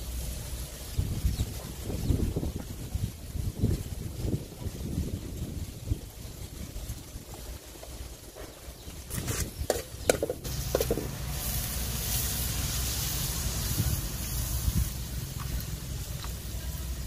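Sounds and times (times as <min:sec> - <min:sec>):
frying sizzle: 0:00.0 - 0:17.0.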